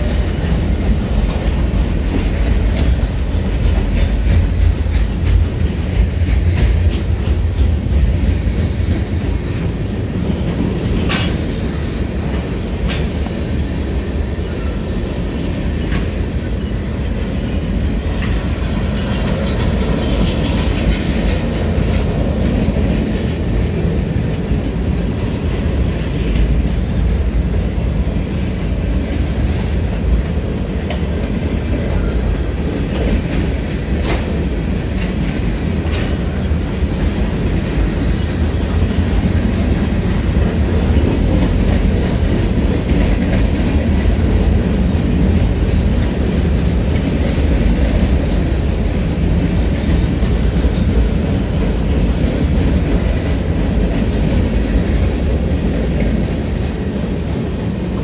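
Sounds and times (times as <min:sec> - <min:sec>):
steel wheels rumbling on rail: 0:00.0 - 0:58.0
wheels clicking over rail joints: 0:00.0 - 0:58.0.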